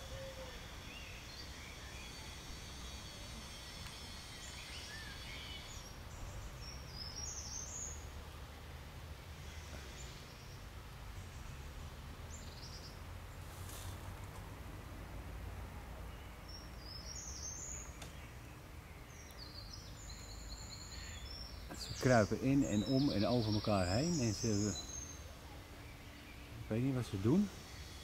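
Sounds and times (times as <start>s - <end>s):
small birds chirping: 0.0s - 13.9s, 15.8s - 28.0s.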